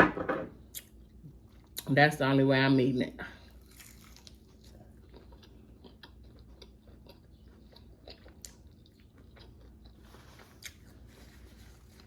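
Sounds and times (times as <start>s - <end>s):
person chewing crispy food: 0.7s - 1.8s, 3.4s - 12.0s.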